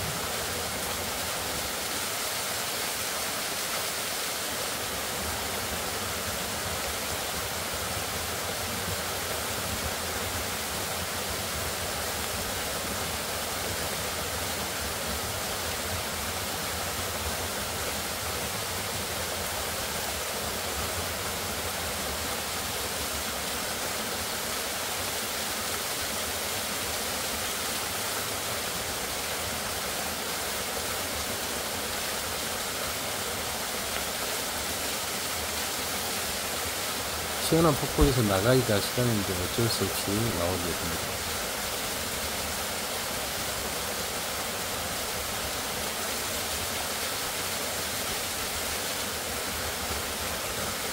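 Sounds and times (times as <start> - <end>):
waterfall splashing into pool: 0.0 - 50.9.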